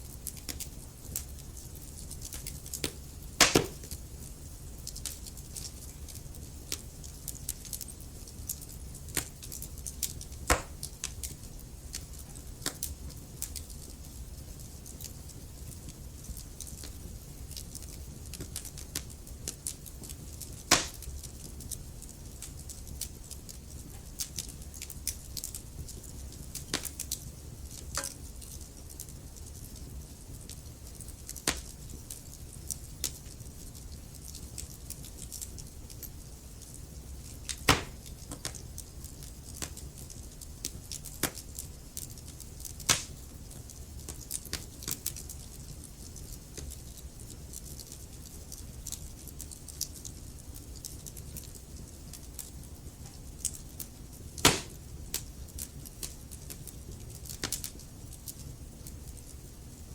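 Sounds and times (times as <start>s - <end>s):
low rumble of fire: 0.0s - 59.9s
wood fire crackling and popping: 0.0s - 59.9s.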